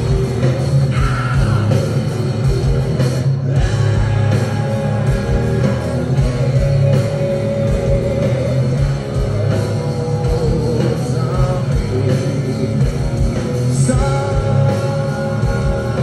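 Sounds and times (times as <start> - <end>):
bass guitar: 0.0 - 16.0
distorted electric guitars: 0.0 - 16.0
person singing: 0.8 - 2.0, 3.6 - 16.0.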